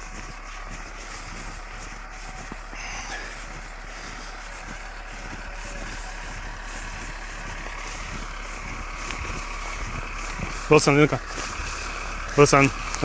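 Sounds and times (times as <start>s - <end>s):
distant bulldozer engine rumble: 0.0s - 13.0s.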